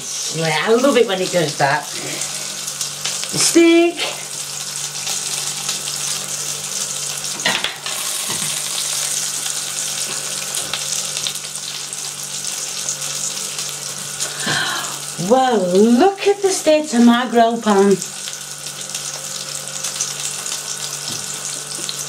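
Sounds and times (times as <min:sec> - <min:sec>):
meat sizzling on a grill: 0:00.0 - 0:22.0.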